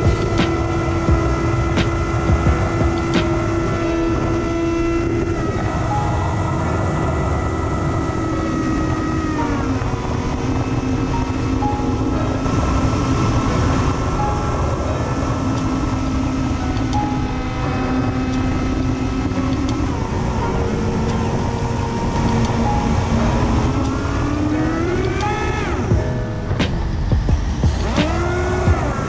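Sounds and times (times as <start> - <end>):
electric motor and propeller whine: 0.0 - 29.0
wind rushing over camera: 0.0 - 29.0.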